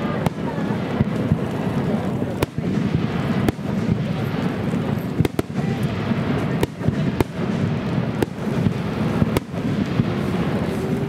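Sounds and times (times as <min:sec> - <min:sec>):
firework sharp bangs: 0:00.0 - 0:11.0
fireworks rumble and crackle: 0:00.0 - 0:11.0.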